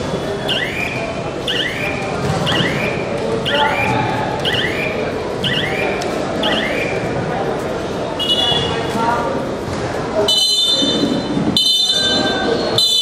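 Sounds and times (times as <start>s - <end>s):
crowd talking: 0.0s - 13.0s.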